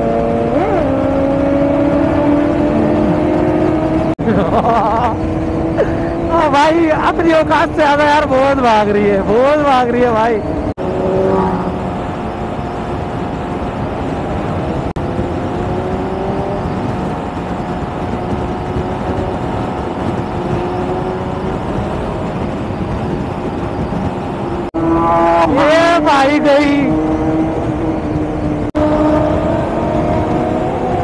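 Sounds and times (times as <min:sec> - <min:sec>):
motorcycle engine drone: 0:00.0 - 0:31.0
wind rushing over microphone: 0:00.0 - 0:31.0.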